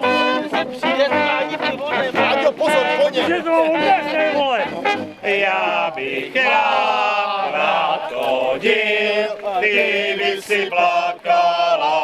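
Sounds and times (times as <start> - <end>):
group singing folk song: 0.0 - 12.0.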